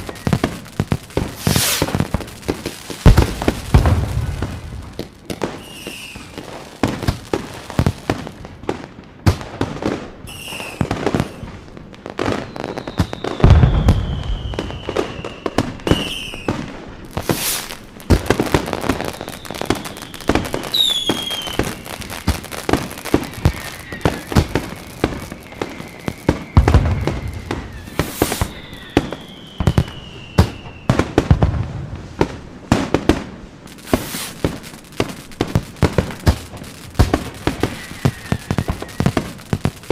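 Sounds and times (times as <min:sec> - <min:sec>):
firework whistles sliding down: 0:00.0 - 0:07.9, 0:10.2 - 0:31.2, 0:33.7 - 0:39.9
firework bangs and crackling: 0:00.0 - 0:39.9
low firework booms: 0:00.0 - 0:39.9.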